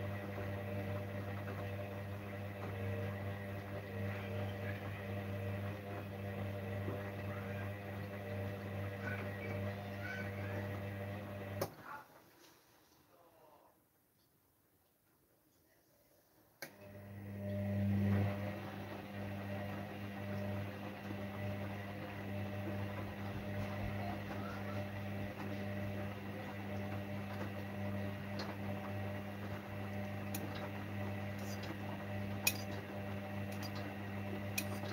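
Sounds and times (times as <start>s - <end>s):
washing machine humming: 0.0s - 12.3s, 16.6s - 34.9s.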